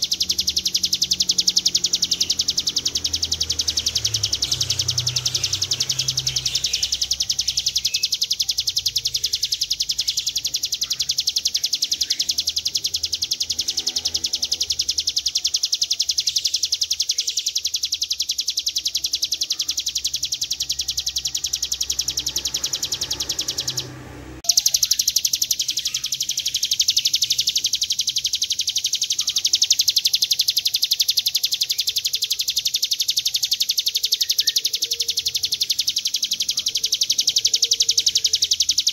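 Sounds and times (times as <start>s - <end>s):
bird singing fast trill: 0.0s - 38.9s.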